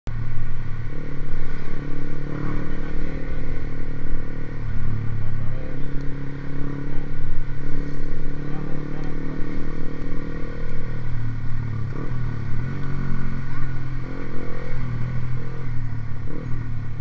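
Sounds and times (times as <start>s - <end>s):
motorcycle engine at low revs: 0.1s - 17.0s.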